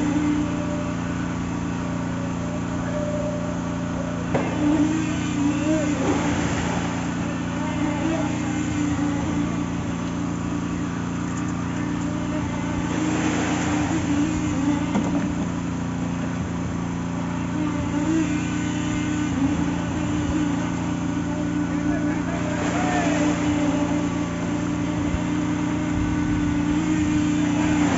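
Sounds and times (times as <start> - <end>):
truck engine running steadily: 0.0 - 27.9.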